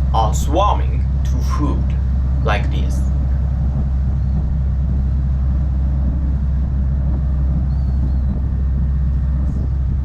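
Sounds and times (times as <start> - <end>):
boat engine drone: 0.0 - 10.0.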